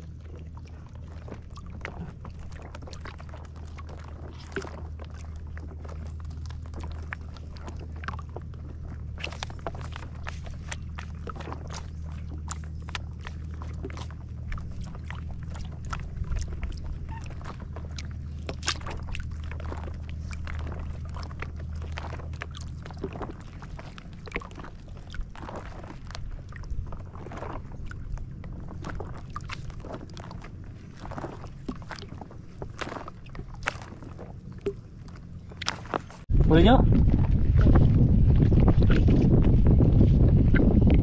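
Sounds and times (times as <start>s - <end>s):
boat engine humming: 0.0s - 41.0s
water splashing: 0.0s - 41.0s.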